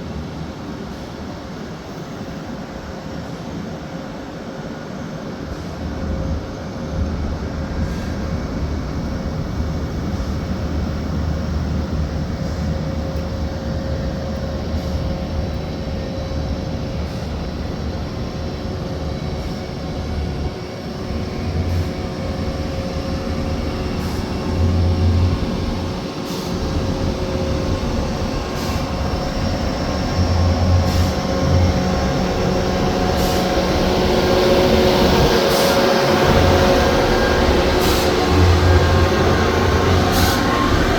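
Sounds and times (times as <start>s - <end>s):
faint steady whine: 5.2s - 40.9s
diesel engine running under load: 7.0s - 40.9s.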